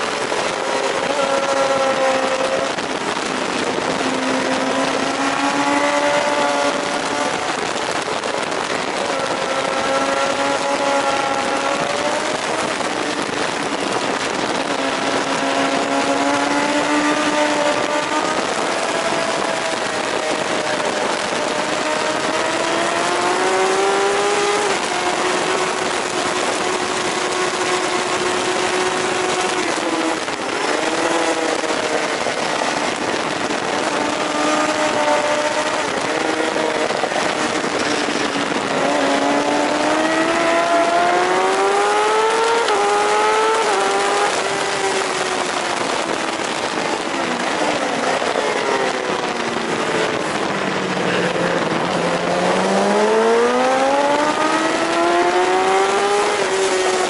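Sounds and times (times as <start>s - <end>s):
racing motorcycle engine revving: 0.0s - 57.0s
wind and road noise: 0.0s - 57.0s.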